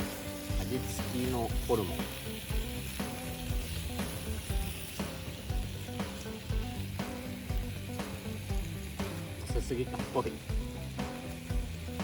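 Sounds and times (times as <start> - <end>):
offal sizzling on iron plate: 0.0 - 12.0.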